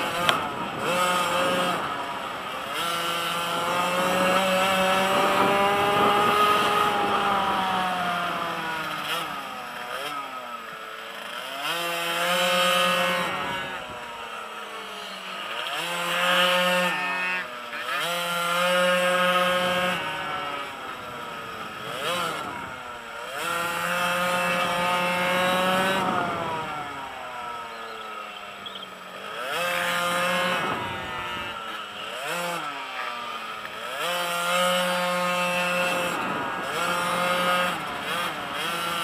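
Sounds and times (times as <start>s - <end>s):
small two-stroke engine revving: 0.0s - 39.0s.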